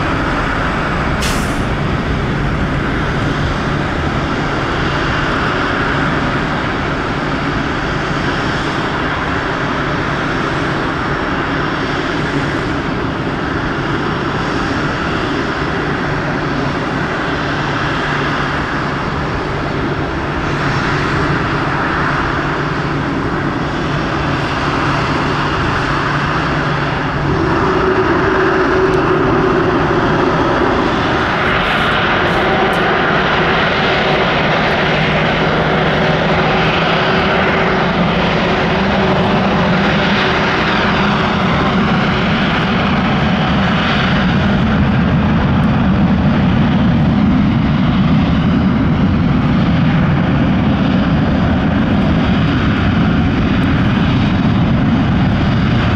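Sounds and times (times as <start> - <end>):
jet engines at takeoff thrust: 0.0 - 55.9
jet engines at taxi power: 0.0 - 55.9.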